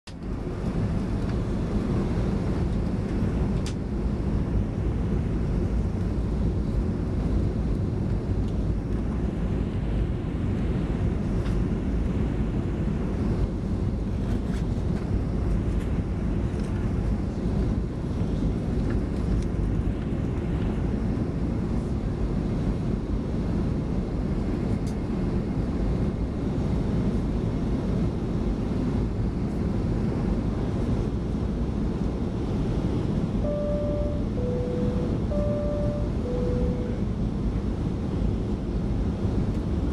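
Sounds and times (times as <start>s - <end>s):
aircraft cabin engine roar: 0.1s - 39.9s.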